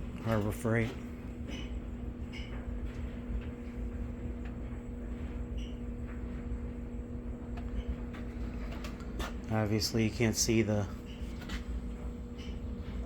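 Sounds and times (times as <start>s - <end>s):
steady hum and low rumble: 0.0s - 13.0s.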